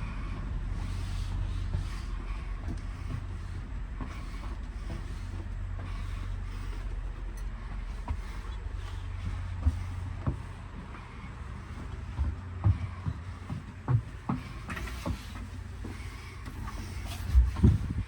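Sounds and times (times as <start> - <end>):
low hum inside rail car: 0.0 - 18.0.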